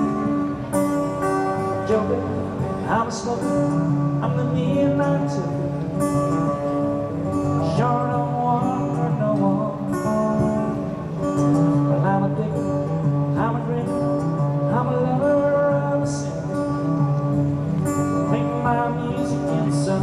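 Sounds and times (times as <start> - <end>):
acoustic guitar strumming: 0.0 - 20.0
rising gliding guitar notes: 0.0 - 20.0.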